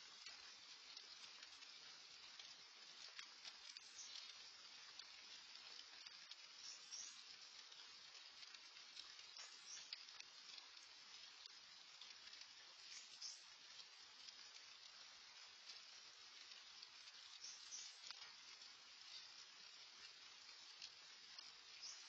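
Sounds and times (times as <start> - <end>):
hiss of light rain: 0.0 - 22.0
raindrops ticking: 0.0 - 22.0.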